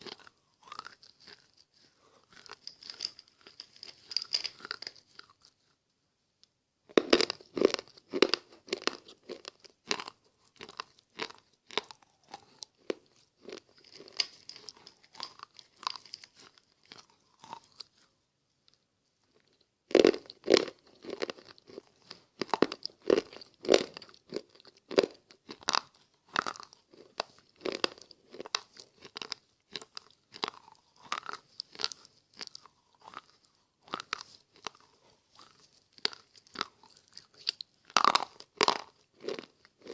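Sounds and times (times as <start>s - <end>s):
person chewing slate pencils: 0.0s - 5.7s, 6.9s - 18.1s, 19.3s - 39.9s.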